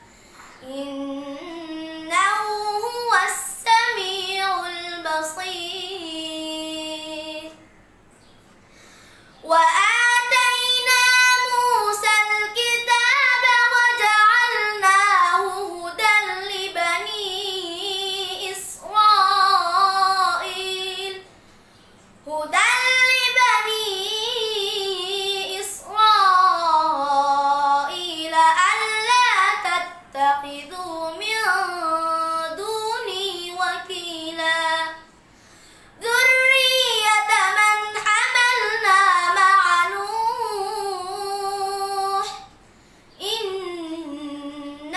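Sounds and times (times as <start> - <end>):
boy chanting recitation: 0.6 - 7.6, 9.4 - 21.3, 22.3 - 35.1, 36.0 - 42.5.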